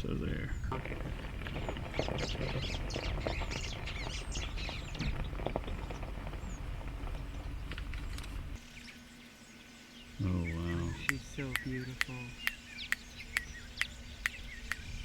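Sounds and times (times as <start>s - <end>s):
low steady rumble: 0.0s - 15.0s
wild birds chirping: 0.0s - 15.0s.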